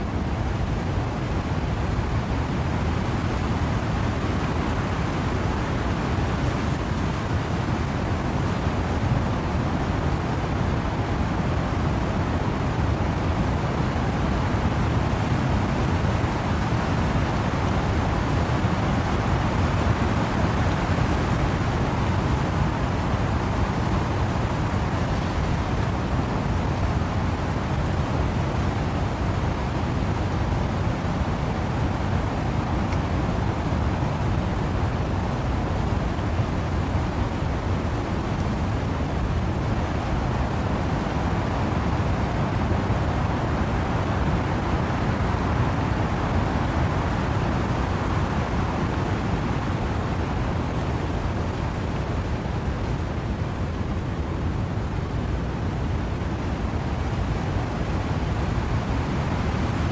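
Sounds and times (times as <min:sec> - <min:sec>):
rain falling: 0:00.0 - 0:59.9
wind blowing through trees: 0:00.0 - 0:59.9.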